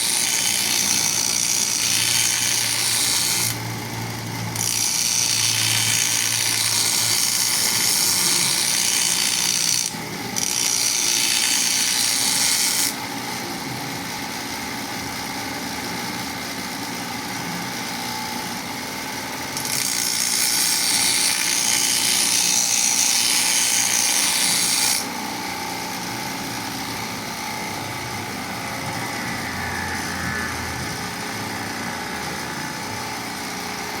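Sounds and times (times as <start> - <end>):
grinder hissing against blade: 0.0 - 14.8, 16.9 - 34.0
grinder motor running: 0.0 - 34.0.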